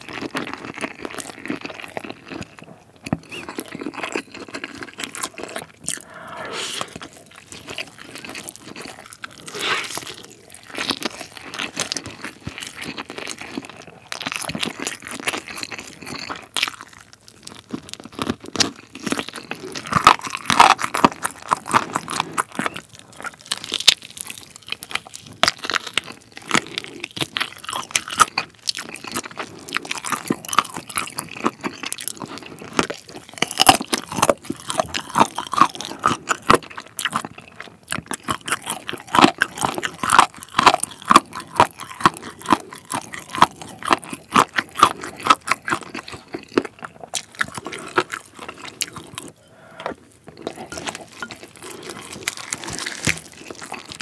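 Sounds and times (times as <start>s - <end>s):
cartilage crunching: 0.0s - 54.0s
person chewing chicken: 0.0s - 54.0s.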